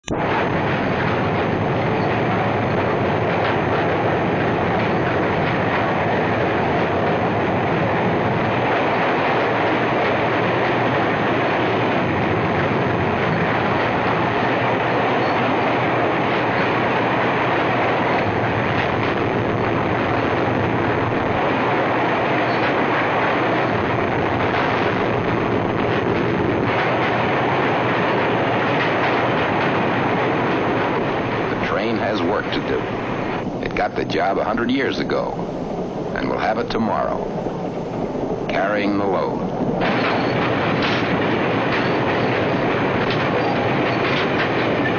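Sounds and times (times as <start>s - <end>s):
train running on rails: 0.0s - 44.9s.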